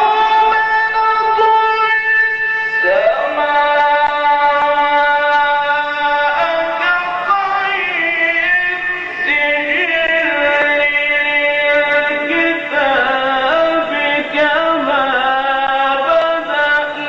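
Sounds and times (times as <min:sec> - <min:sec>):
man chanting in long notes: 0:00.0 - 0:17.0.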